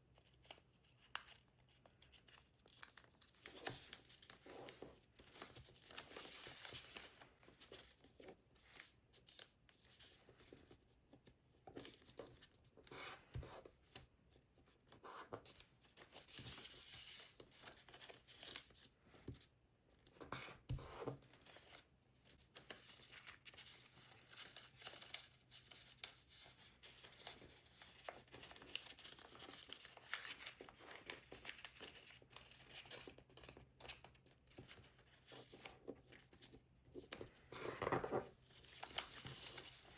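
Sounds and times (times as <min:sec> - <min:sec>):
paper rustling and crinkling: 0:00.1 - 0:39.9.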